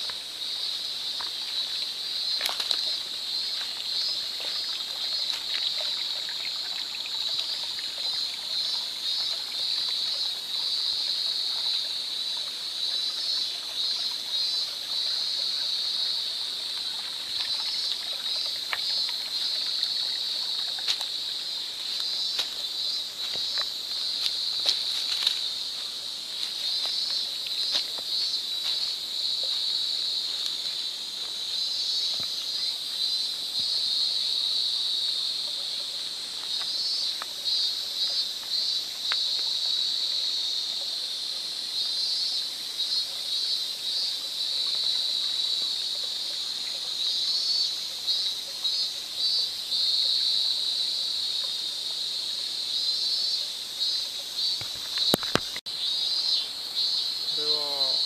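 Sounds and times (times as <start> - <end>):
insects chorus: 0.0 - 58.0
pulsing insect trills: 0.0 - 58.0.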